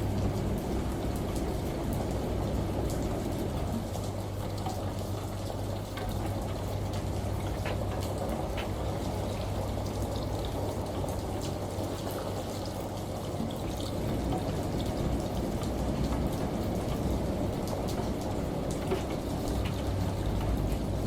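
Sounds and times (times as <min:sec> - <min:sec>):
rushing water: 0:00.0 - 0:21.0
washing machine hum: 0:00.0 - 0:21.0
water dripping: 0:00.0 - 0:21.0.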